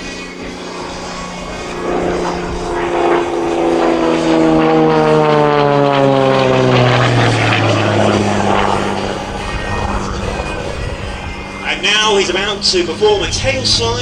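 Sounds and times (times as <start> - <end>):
plane engine and propeller: 0.0 - 14.0.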